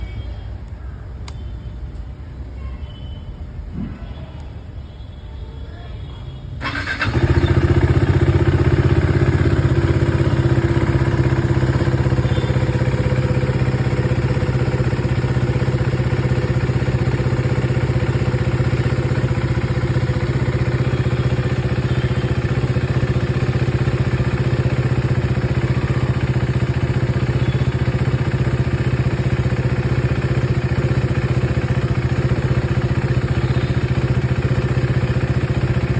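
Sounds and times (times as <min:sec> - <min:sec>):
motorcycle engine starting and idling: 0:06.6 - 0:35.9.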